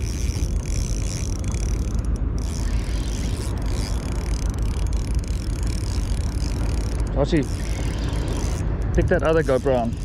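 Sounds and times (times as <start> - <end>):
fishing reel whirring: 0.0 - 10.0.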